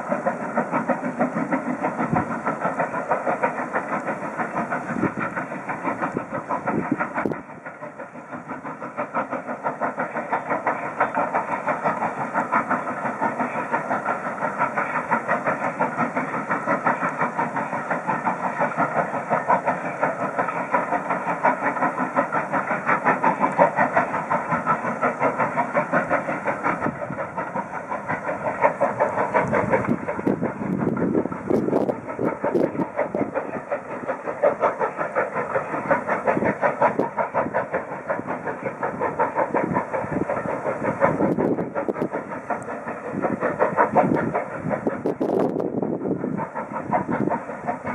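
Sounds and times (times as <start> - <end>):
steam locomotive exhaust beats: 0.0 - 47.9.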